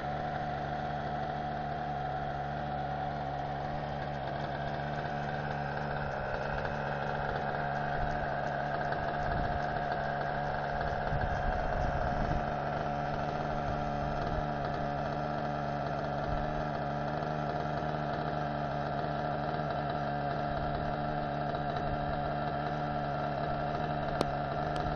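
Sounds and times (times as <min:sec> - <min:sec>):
model helicopter engine whine: 0:00.0 - 0:24.9.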